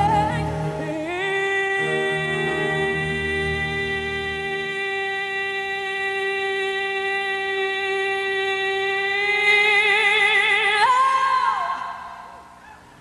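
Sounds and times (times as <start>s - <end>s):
woman singing a long note: 0.0s - 12.3s.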